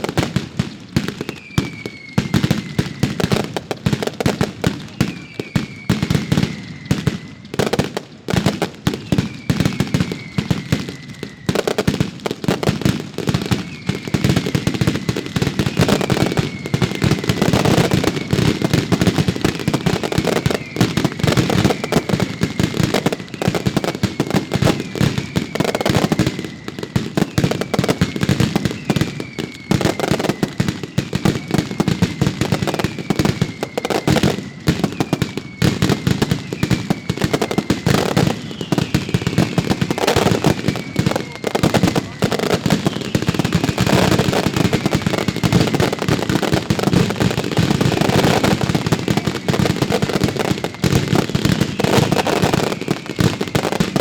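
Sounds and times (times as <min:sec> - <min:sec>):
falling firework whistle: 0:00.0 - 0:54.0
firecracker bangs and crackle: 0:00.0 - 0:54.0.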